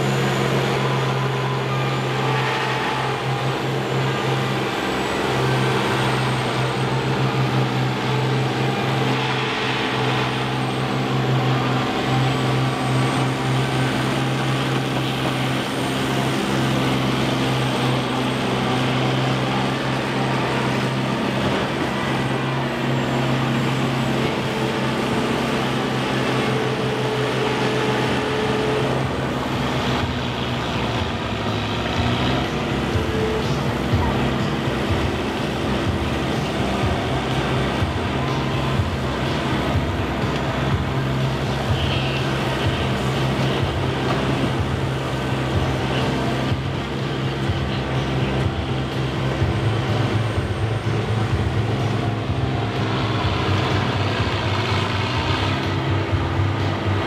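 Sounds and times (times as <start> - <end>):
combine harvester engines droning: 0.0 - 57.0.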